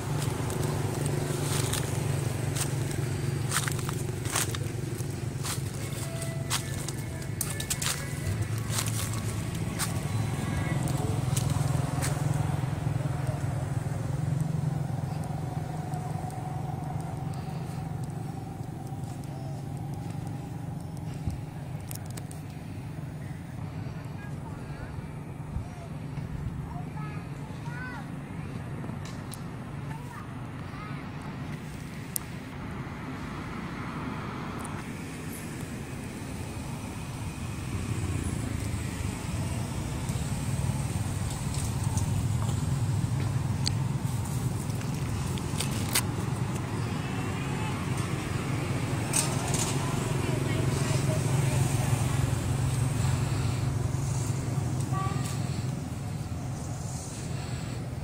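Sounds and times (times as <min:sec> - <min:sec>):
engine idling drone: 0:00.0 - 0:58.0.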